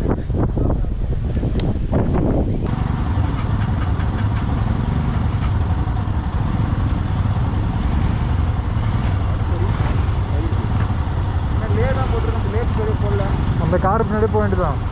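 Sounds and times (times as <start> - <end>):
road and wind noise: 0.0 - 14.9
vehicle engine drone: 2.5 - 14.9.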